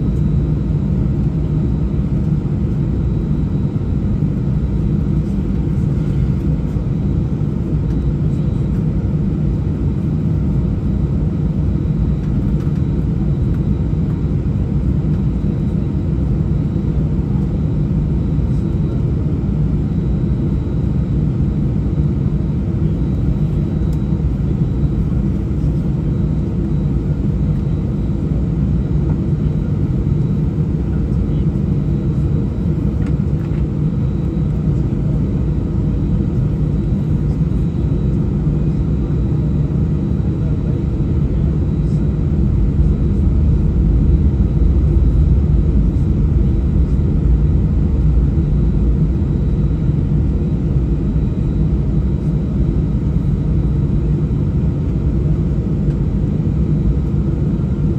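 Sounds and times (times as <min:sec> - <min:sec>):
aircraft cabin rumble: 0:00.0 - 0:57.9.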